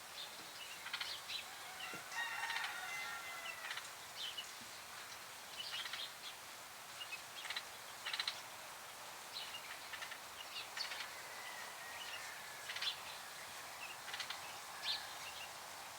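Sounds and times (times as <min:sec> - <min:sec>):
steady outdoor hiss: 0:00.0 - 0:15.9.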